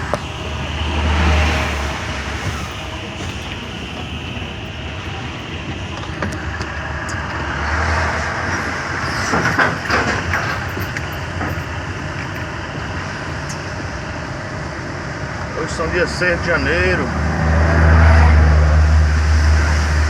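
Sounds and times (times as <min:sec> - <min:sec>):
truck road and engine noise: 0:00.0 - 0:20.0.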